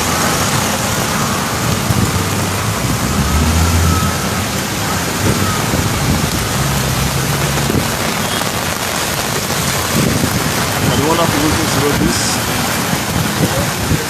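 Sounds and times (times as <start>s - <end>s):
heavy rain pouring: 0.0s - 14.0s
vehicle engines humming: 0.0s - 14.0s.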